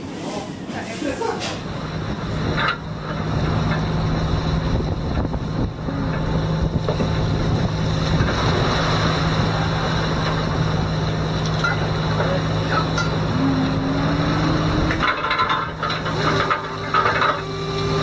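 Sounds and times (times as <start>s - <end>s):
low hum: 1.6s - 18.0s
rushing noise: 1.6s - 18.0s.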